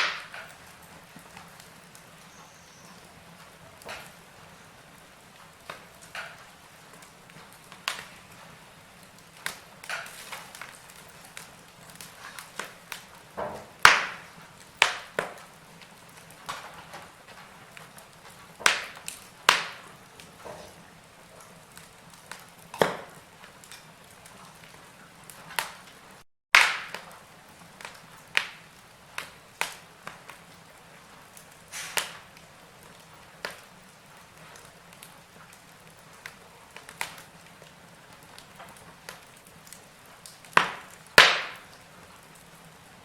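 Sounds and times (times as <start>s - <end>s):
fire hissing: 0.0s - 26.2s, 26.9s - 43.0s
wood fire crackling and popping: 0.0s - 43.0s.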